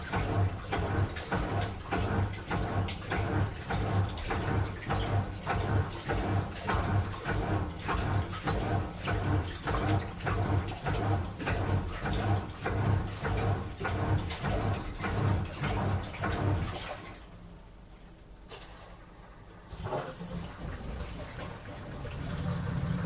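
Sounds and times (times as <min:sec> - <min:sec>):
washing machine drum sloshing: 0:00.0 - 0:23.0.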